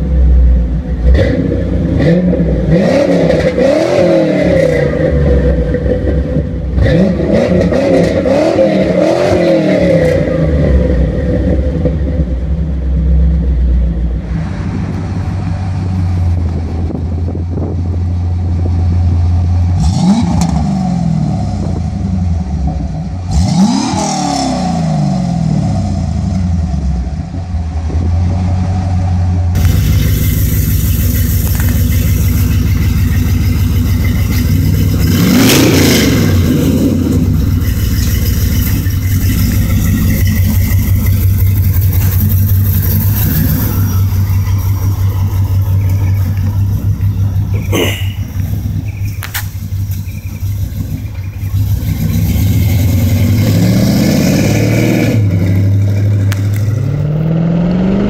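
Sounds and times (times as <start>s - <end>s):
car engine idling and blipped: 0.0s - 58.0s
car engine revving: 0.0s - 58.0s
loud car exhaust: 0.0s - 58.0s.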